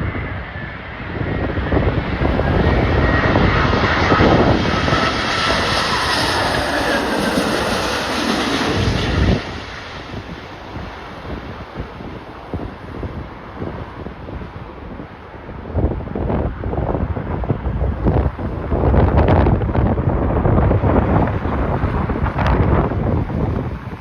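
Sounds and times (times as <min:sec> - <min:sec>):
jet airliner engines rumbling: 0:00.0 - 0:24.0
wind buffeting microphone: 0:00.0 - 0:24.0.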